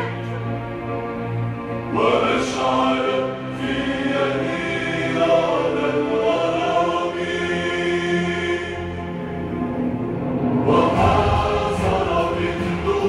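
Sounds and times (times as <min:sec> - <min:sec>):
choir singing held notes: 0:00.0 - 0:13.0.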